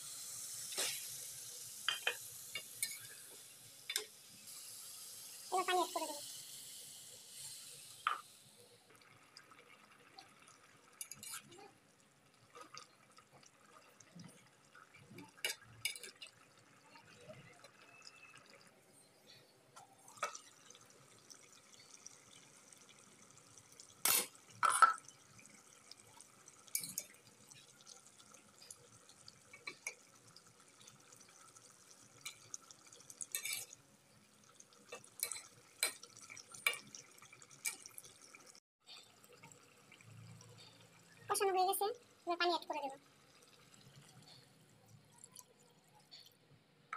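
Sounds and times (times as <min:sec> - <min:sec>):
faint sizzle: 0:00.0 - 0:46.9.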